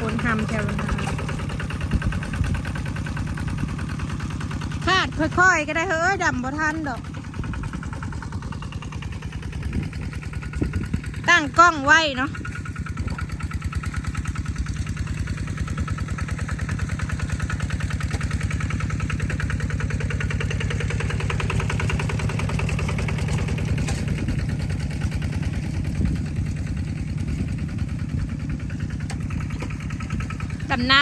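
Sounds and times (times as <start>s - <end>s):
small engine idling: 0.0s - 31.0s.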